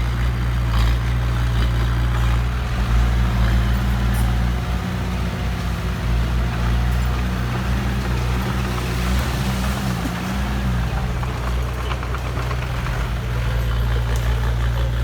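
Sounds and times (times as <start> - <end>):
heavy vehicle engine idling: 0.0 - 15.0.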